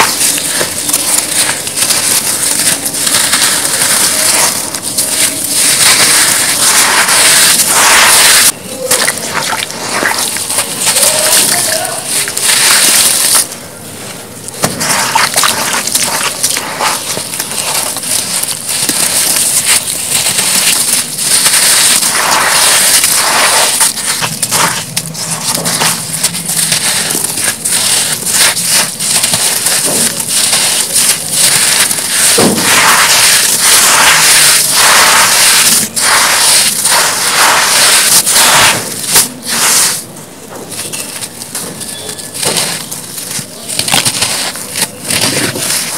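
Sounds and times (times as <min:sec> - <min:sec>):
hands crunching gritty sand: 0:00.0 - 0:13.6, 0:14.5 - 0:40.1, 0:40.7 - 0:45.9.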